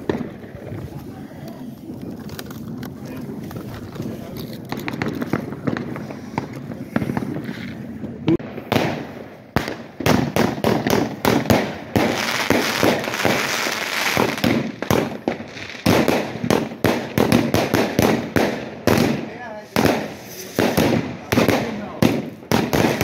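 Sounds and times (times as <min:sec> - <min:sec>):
firecrackers crackling: 0:00.0 - 0:23.0
fireworks banging: 0:00.0 - 0:23.0.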